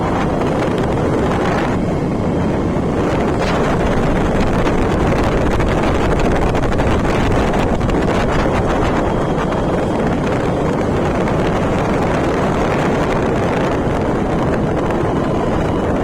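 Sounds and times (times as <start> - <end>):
moving vehicle noise: 0.0 - 16.0
wind on microphone: 0.0 - 16.0.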